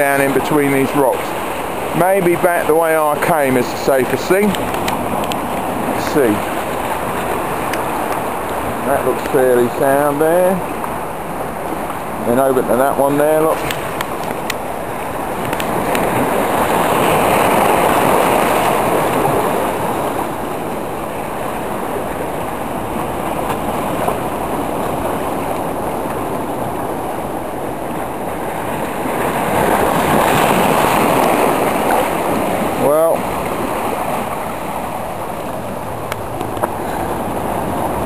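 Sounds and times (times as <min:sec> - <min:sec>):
waves breaking over rocks: 0:00.0 - 0:38.0.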